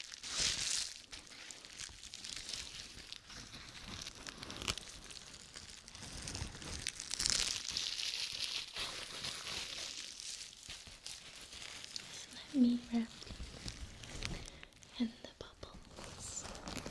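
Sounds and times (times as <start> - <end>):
bubble wrap crinkling: 0.0 - 16.9.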